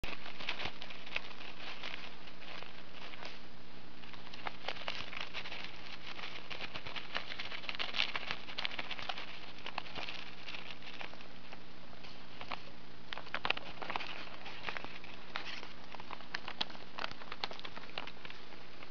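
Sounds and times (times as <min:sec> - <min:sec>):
paper crackles and rustles: 0:00.0 - 0:03.4, 0:04.0 - 0:18.9
hamster chewing paper: 0:00.0 - 0:18.9.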